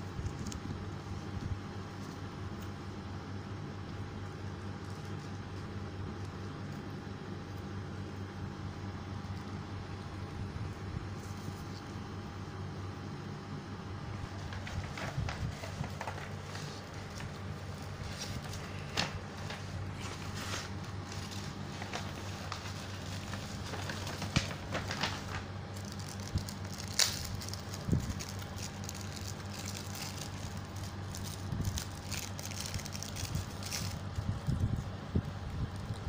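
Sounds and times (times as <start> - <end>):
paper rustling and crackling: 0.0 - 3.0, 3.8 - 7.7, 9.2 - 12.2, 14.1 - 36.0
steady low hum: 0.0 - 36.0.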